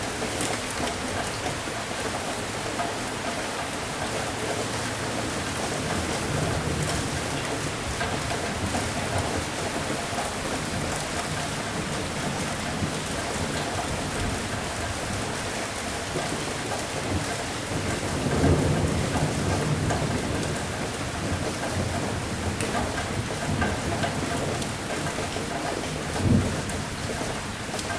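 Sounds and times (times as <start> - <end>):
heavy rain falling: 0.0 - 27.9
thunder rumbling: 4.0 - 15.5, 16.2 - 27.9.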